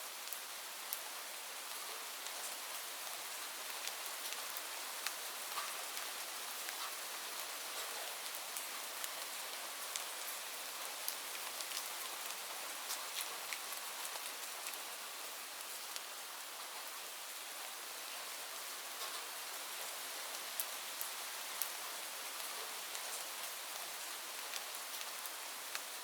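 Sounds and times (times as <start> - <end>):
steady rain hissing: 0.0 - 26.0
raindrops ticking on hard surfaces: 0.2 - 17.5, 18.8 - 26.0.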